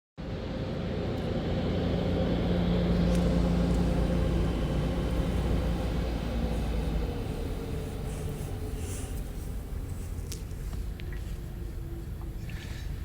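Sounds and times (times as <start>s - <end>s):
steady hum: 0.2s - 13.0s
car rumbling: 0.3s - 13.0s.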